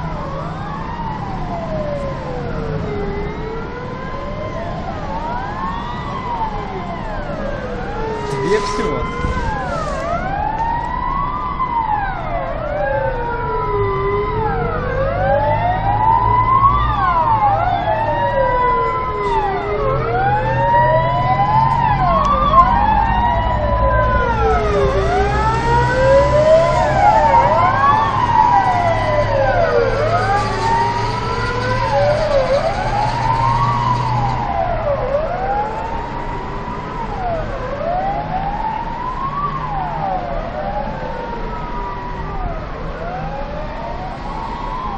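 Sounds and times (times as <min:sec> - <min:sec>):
fire engine sirens wailing: 0:00.0 - 0:44.9
truck engines rumbling: 0:00.0 - 0:44.9.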